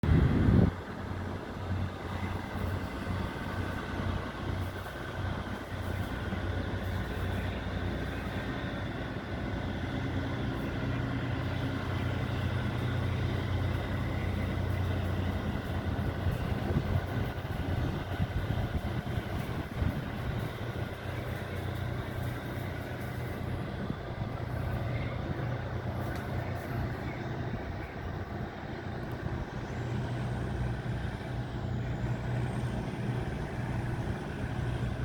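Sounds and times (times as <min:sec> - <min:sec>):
boat diesel engine drone: 0:00.0 - 0:35.0.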